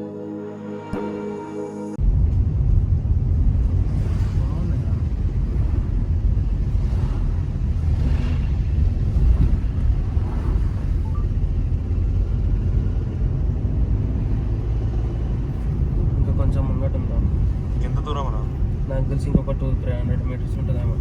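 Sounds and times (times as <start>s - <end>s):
vehicle engine and road noise: 2.0s - 21.0s.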